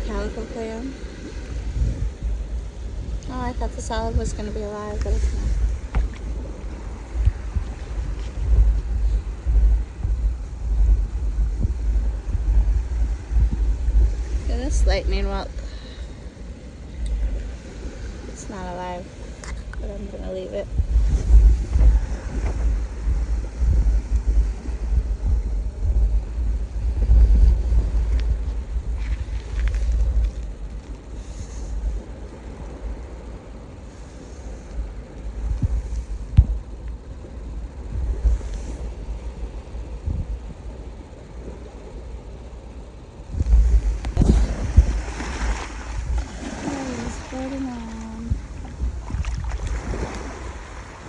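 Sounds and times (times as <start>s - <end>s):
ocean surf hiss: 0.0s - 28.1s, 31.0s - 36.8s, 37.4s - 40.1s, 40.7s - 51.0s
wind buffeting microphone: 0.0s - 51.0s.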